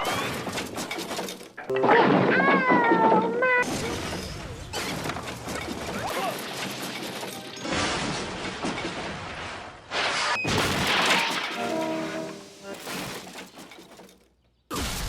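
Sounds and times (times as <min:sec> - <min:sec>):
wood crashing and breaking: 0:00.0 - 0:09.7, 0:10.5 - 0:14.4
tumbling boards and debris clatter: 0:00.0 - 0:09.8, 0:10.5 - 0:14.4.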